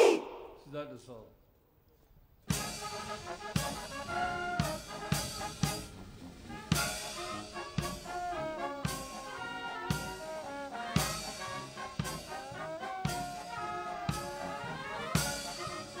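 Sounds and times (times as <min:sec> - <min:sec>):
brass band playing: 0:02.5 - 0:16.0
drum and cymbal beat: 0:02.5 - 0:16.0.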